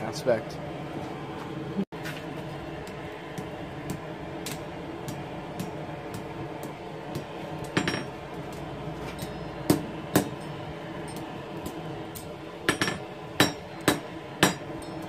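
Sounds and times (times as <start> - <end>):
hammer striking steel on anvil: 2.8 - 15.0.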